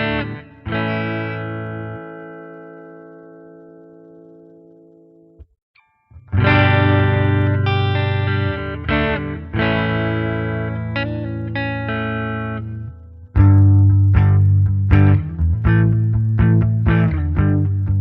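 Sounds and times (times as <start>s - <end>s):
electric guitar chords: 0.0s - 18.0s.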